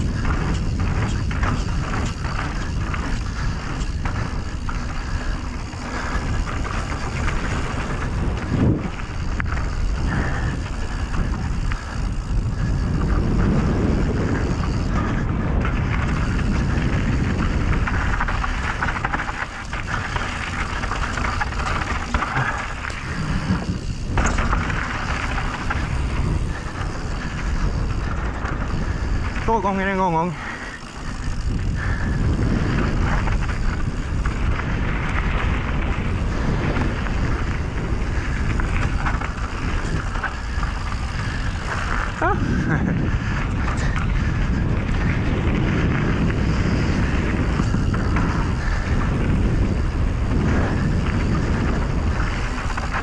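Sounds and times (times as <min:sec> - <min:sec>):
bike knocking and rattling: 0:00.0 - 0:53.0
bike tyre noise: 0:00.0 - 0:53.0
wind rushing over microphone: 0:00.0 - 0:53.0.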